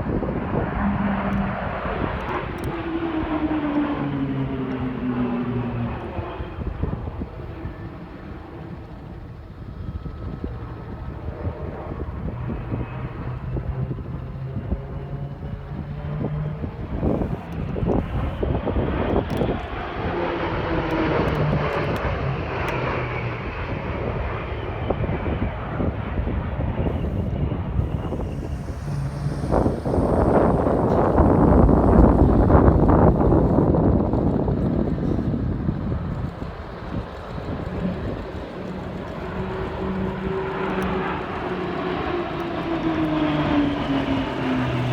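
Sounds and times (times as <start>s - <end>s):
aircraft engine drone: 0.0s - 44.9s.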